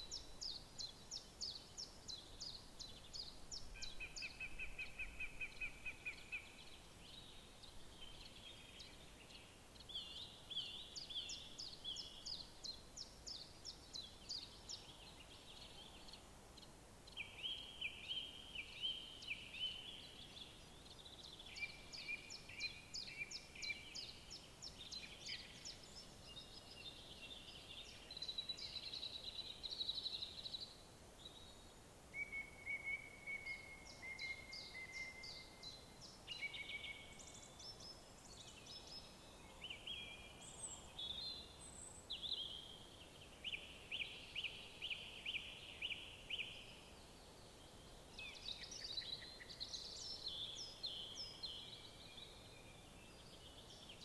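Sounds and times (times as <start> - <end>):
faint background hiss: 0.0 - 54.0
songbirds singing: 0.0 - 54.0.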